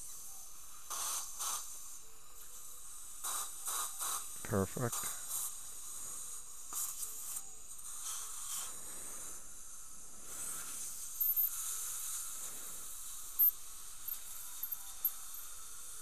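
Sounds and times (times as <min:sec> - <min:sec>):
dental suction hiss: 0:00.0 - 0:16.0.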